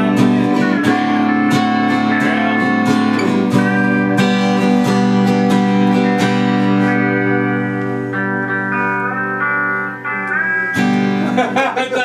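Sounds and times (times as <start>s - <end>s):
guitar notes picked: 0.0s - 12.0s.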